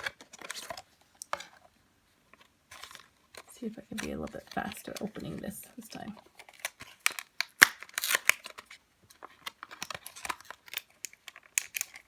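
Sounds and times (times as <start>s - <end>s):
plastic packaging crinkling and snapping: 0.0s - 1.7s, 2.3s - 12.0s.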